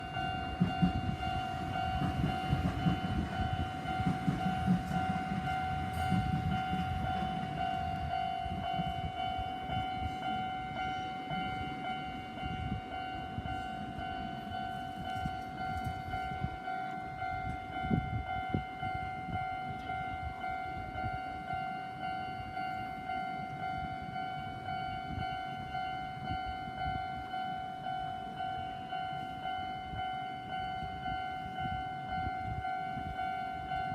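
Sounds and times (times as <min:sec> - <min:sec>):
level crossing warning bell: 0:00.0 - 0:33.9
passing train rumble: 0:00.0 - 0:33.9.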